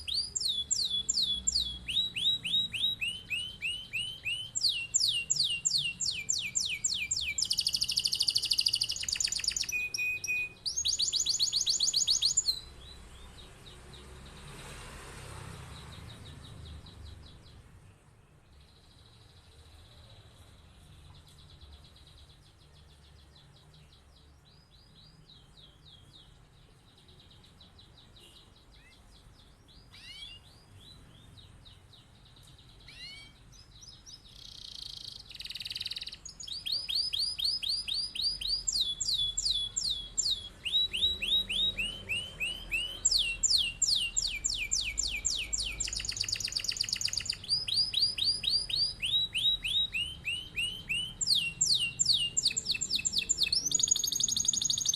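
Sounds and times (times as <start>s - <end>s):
canary singing trills: 0.0s - 14.6s, 15.5s - 54.9s.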